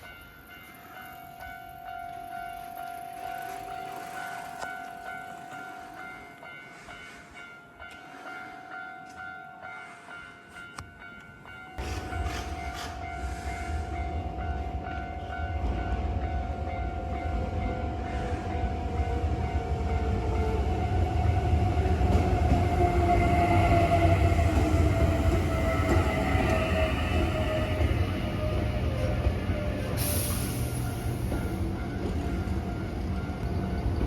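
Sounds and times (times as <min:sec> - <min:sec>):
electric train rumbling past: 0:00.0 - 0:34.0.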